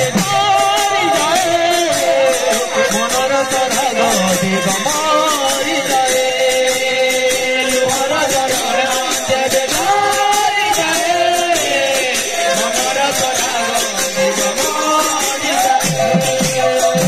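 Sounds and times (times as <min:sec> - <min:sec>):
brass hand cymbals: 0:00.0 - 0:17.0
held melody line: 0:00.0 - 0:17.0.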